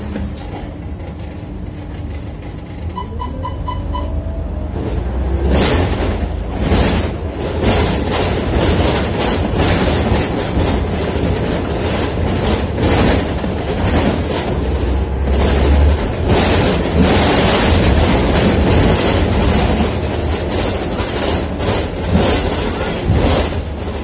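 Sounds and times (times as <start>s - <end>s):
bus body rattling: 0.0s - 24.0s
bus diesel engine drone: 0.0s - 24.0s.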